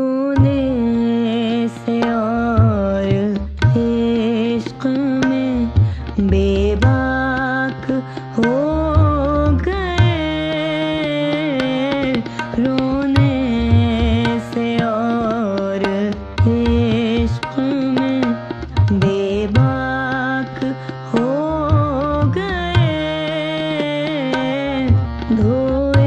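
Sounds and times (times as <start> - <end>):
indian classical melody over drone: 0.0 - 26.0
tabla strokes: 0.3 - 26.0.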